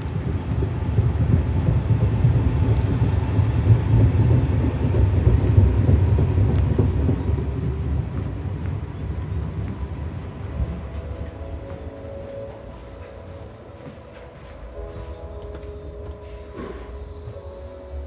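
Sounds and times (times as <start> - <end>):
train rumbling across bridge: 0.0 - 18.0.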